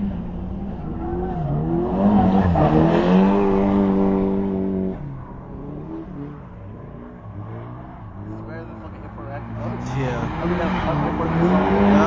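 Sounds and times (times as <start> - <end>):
car engine revving high: 0.0 - 12.0.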